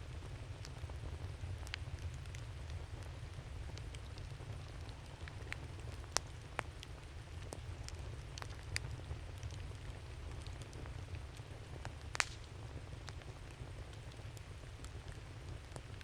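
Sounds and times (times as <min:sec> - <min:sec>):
low fire rumble: 0:00.0 - 0:16.0
wood fire pops and snaps: 0:00.1 - 0:16.0.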